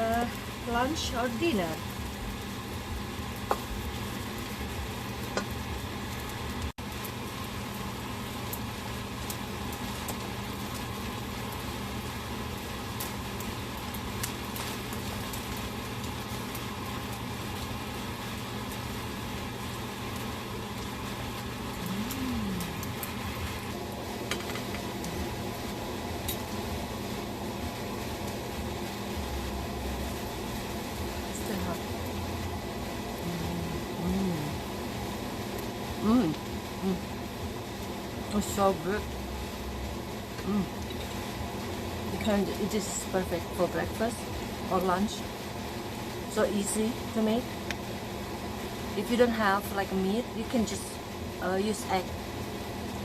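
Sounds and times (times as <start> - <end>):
rice sizzling in a hot pan: 0.0 - 53.0.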